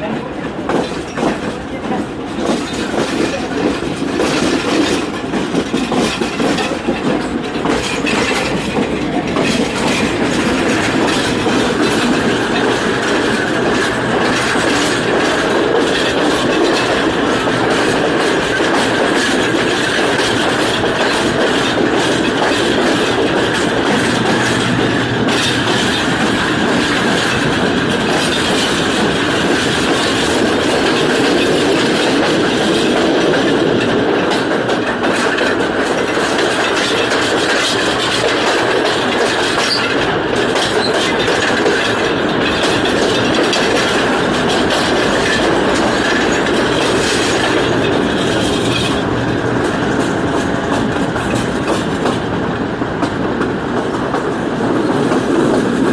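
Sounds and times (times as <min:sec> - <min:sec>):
train rumbling: 0:00.0 - 0:55.9
train wheels clacking over rail joints: 0:00.0 - 0:55.9.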